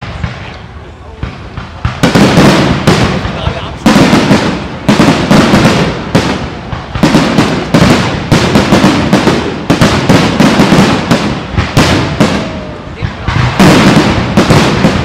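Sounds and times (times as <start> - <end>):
firework shells bursting: 1.3 - 15.0.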